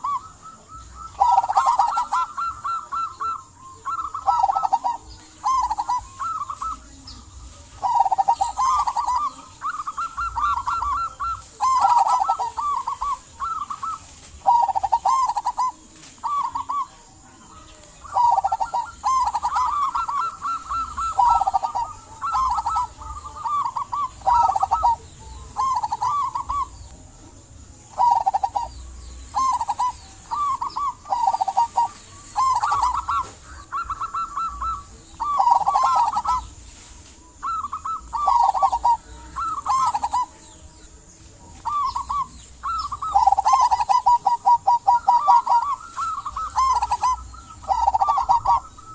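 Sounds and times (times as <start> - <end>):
dove cooing: 0.0 - 27.0, 27.8 - 48.9.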